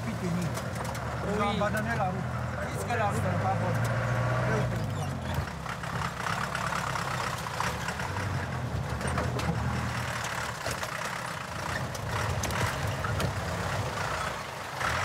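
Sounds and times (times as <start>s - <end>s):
truck engine running at low speed: 0.0s - 15.0s.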